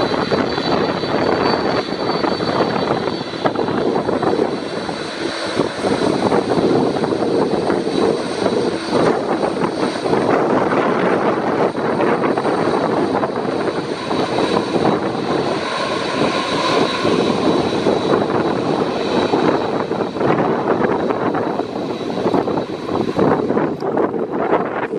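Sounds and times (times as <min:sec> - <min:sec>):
jet engines rushing with whine: 0:00.0 - 0:24.9.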